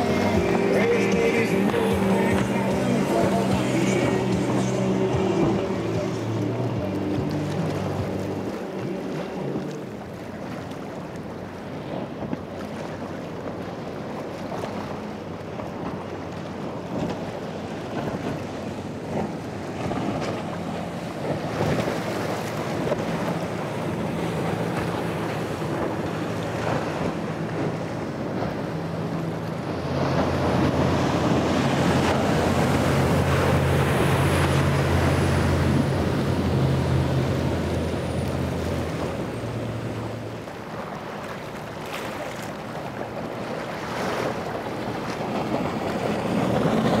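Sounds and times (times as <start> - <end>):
hulls slapping water: 0.0 - 47.0
powerboat engines: 0.0 - 47.0.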